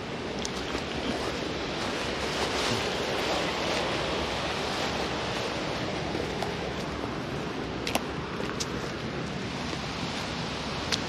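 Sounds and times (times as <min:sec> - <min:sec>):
waterfall rushing: 0:00.0 - 0:11.0
wind rumble on microphone: 0:00.0 - 0:11.0.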